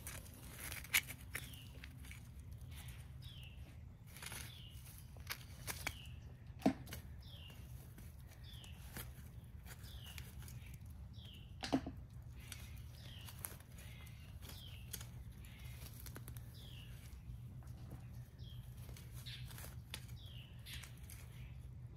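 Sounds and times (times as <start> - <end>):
bird calling: 0.4 - 21.7.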